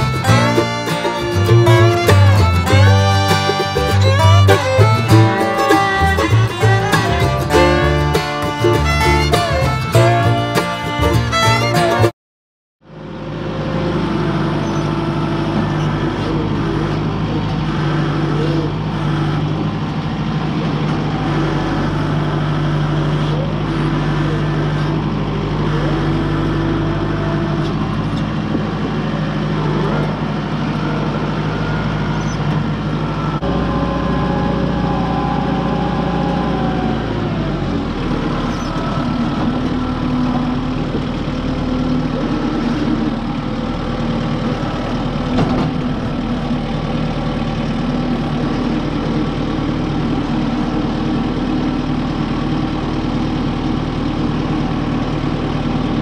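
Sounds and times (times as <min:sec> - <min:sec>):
tractor diesel engine running: 0:00.0 - 0:12.1, 0:12.8 - 0:56.0.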